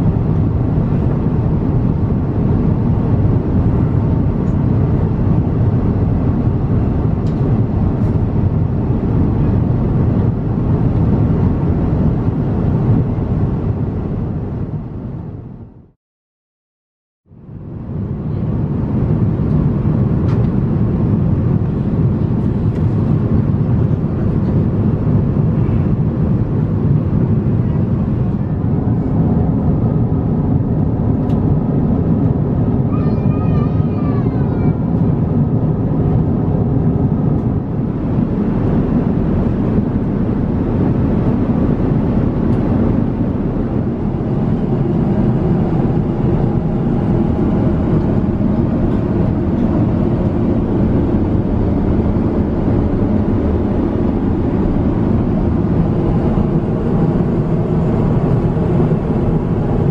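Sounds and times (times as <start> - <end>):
airliner cabin roar: 0.0 - 15.9, 17.3 - 59.9.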